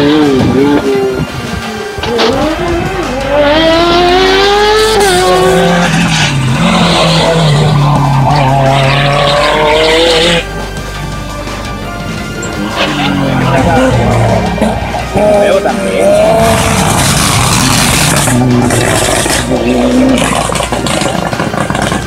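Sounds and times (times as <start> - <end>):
quiet music: 0.0 - 22.0
race car engine at full throttle: 0.0 - 22.0.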